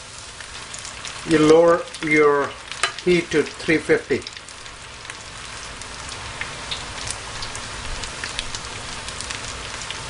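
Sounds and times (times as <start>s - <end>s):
deep-frying sizzle and crackles: 0.0s - 10.0s.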